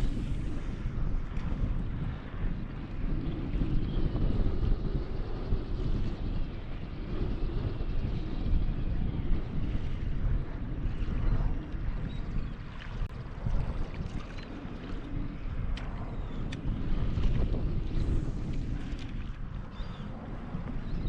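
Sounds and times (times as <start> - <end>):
water around kayak: 0.0 - 21.0
wind buffeting microphone: 0.0 - 21.0.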